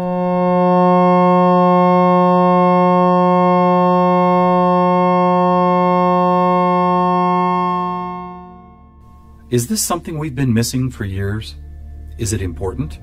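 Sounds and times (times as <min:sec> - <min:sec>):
steady generated tone chord: 0:00.0 - 0:13.0.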